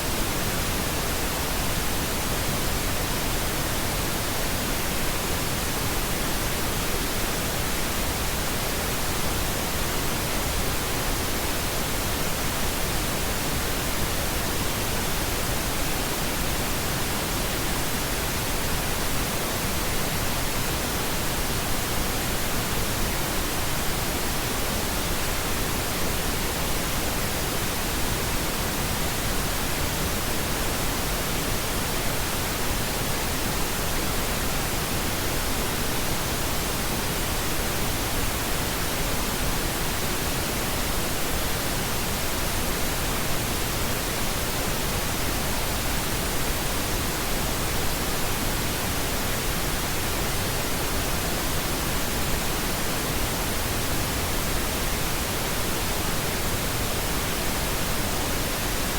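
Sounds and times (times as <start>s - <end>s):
pink noise hiss: 0.0s - 58.9s.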